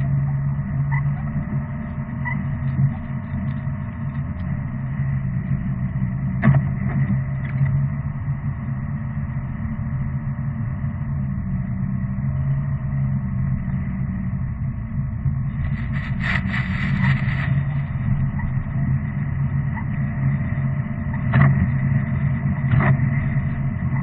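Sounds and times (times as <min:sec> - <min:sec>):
vehicle drone: 0:00.0 - 0:24.0.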